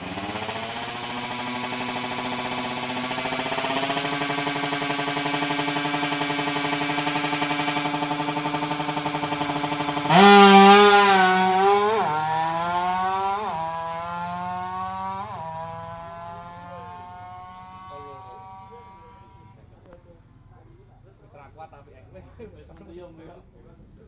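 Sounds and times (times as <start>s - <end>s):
motorcycle engine revving and shifting: 0.0s - 20.0s.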